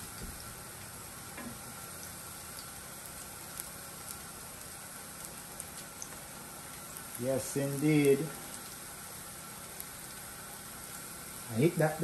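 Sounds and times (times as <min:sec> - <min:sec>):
plantain sizzling in oil: 0:00.0 - 0:12.0.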